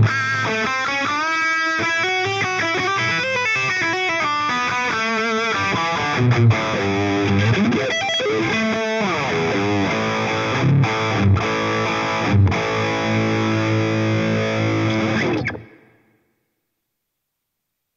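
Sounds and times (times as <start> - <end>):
distorted electric guitar riff: 0.0 - 16.1.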